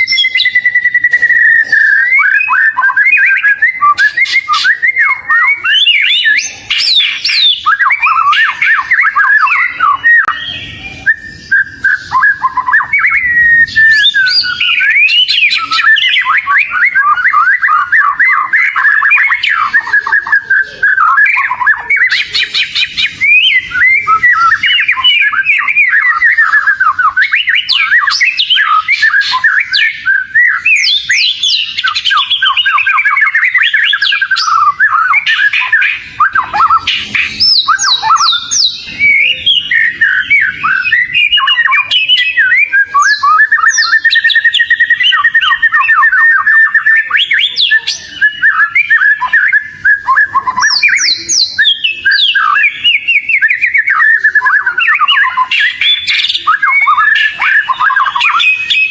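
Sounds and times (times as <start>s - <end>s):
songbird whistling and trilling: 0.0s - 58.9s.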